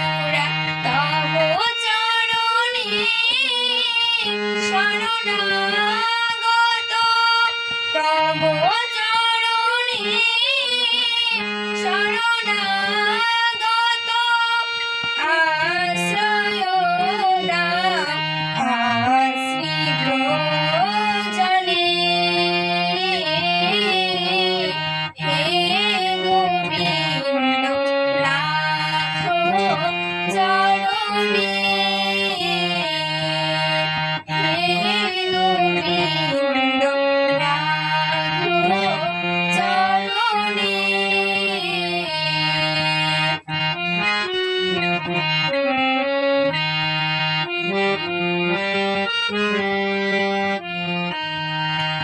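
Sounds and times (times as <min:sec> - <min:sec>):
free-reed instrument melody: 0:00.0 - 0:52.0.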